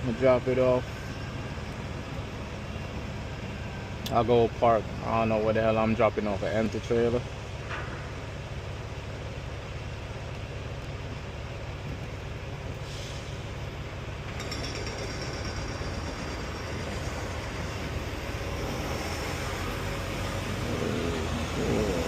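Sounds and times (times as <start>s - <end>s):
diesel truck engine running: 0.0s - 14.4s, 15.5s - 22.0s.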